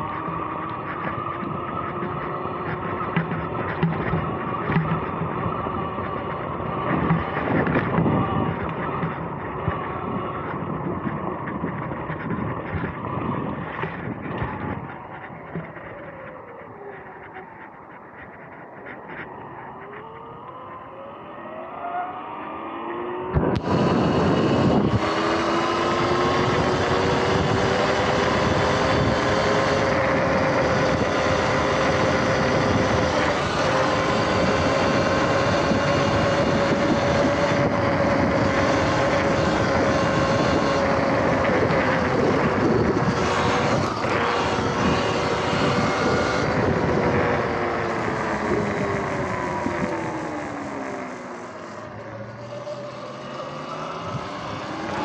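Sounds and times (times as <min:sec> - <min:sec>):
wind rush: 0:00.0 - 0:21.2, 0:22.6 - 0:55.0
electric motor whining: 0:00.0 - 0:55.0
road noise: 0:00.0 - 0:55.0.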